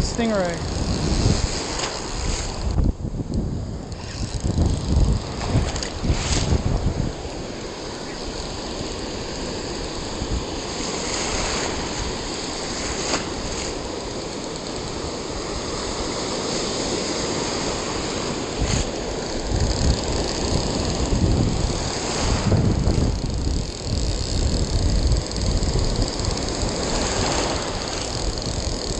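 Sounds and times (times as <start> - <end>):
wind on microphone: 0.0 - 28.9
surf breaking: 4.0 - 28.5.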